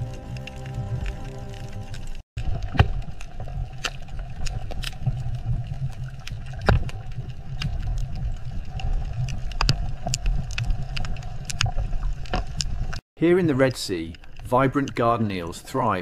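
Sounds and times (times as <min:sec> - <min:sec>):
sharp underwater clicks: 0:01.9 - 0:13.0, 0:13.6 - 0:15.5.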